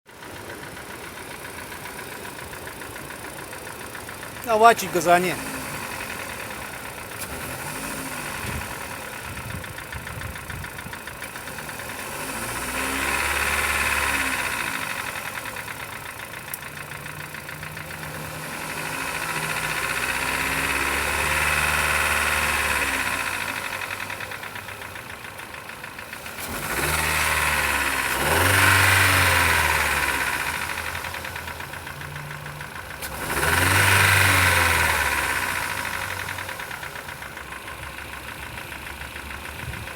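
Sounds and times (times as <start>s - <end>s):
knocking engine revving: 0.1s - 39.9s.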